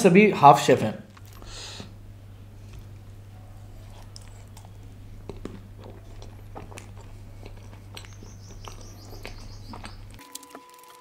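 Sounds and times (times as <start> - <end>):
person chewing food: 1.1 - 11.0.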